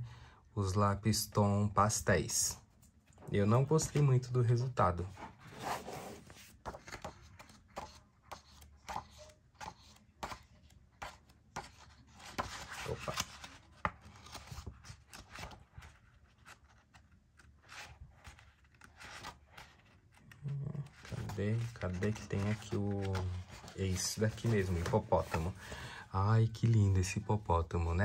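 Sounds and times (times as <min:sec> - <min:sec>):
book pages turning: 0:03.2 - 0:27.1.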